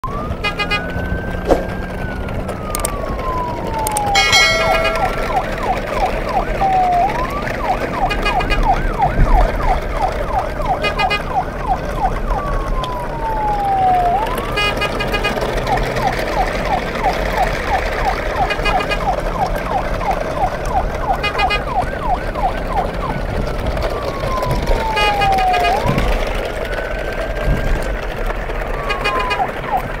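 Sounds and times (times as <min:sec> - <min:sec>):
emergency vehicle siren: 0:00.0 - 0:30.0.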